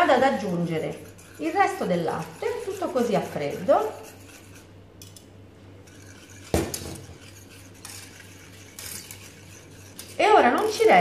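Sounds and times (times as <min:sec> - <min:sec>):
wire whisk stirring in saucepan: 0:00.0 - 0:11.0.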